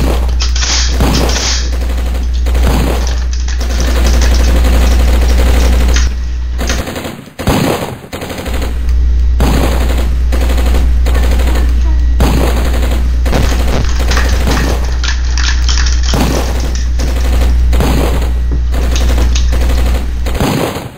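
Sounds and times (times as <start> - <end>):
rapid gunfire-like bangs: 0.0 - 8.8, 9.4 - 15.1, 16.0 - 20.9
steady low hum: 0.0 - 20.9.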